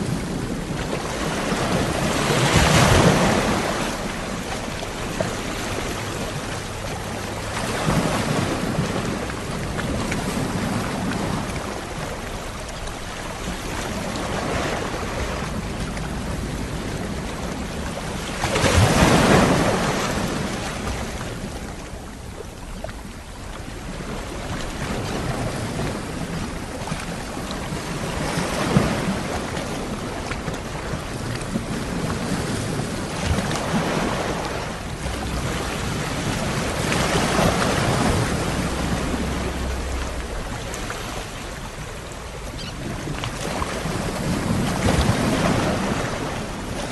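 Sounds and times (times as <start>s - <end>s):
low wind rumble: 0.0s - 46.9s
sea waves breaking on shore: 0.0s - 46.9s.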